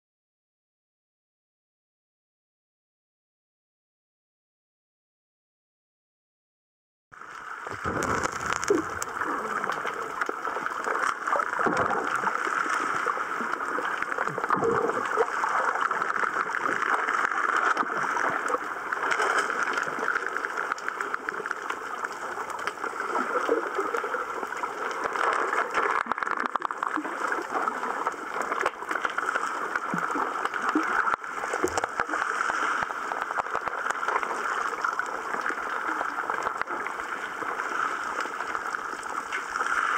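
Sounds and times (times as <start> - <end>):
rushing water underwater: 7.1 - 39.9
water gurgles and sloshes: 7.2 - 39.9.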